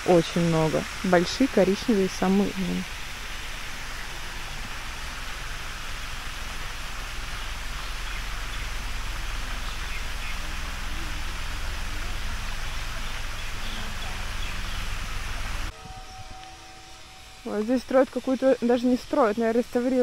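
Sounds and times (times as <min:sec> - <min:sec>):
outdoor hiss: 0:00.0 - 0:20.0.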